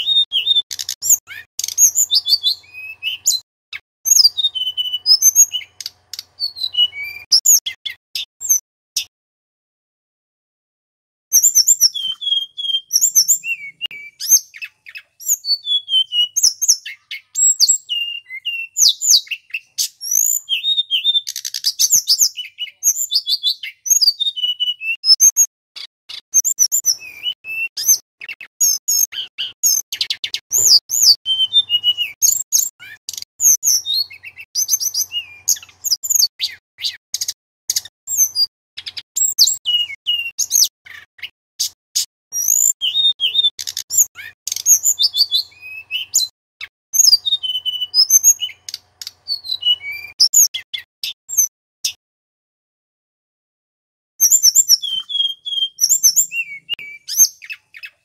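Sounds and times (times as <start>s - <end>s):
bird singing whistles and trills: 0.0s - 9.1s, 11.3s - 52.0s, 54.2s - 58.0s.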